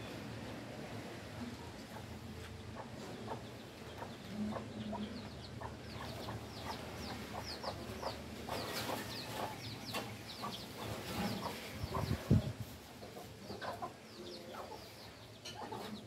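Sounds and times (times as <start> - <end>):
birds chirping: 2.5 - 16.0.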